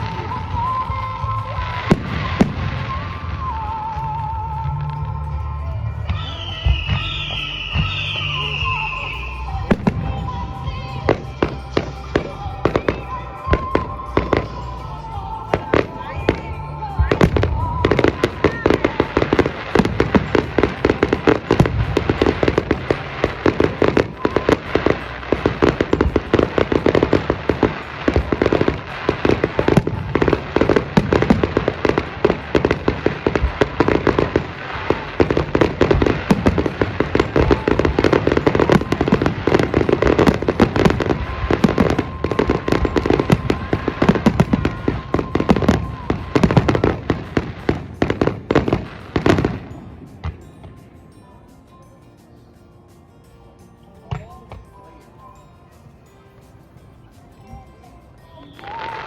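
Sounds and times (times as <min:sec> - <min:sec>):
fireworks bangs and crackles: 0:00.0 - 0:51.2, 0:58.5 - 0:59.0.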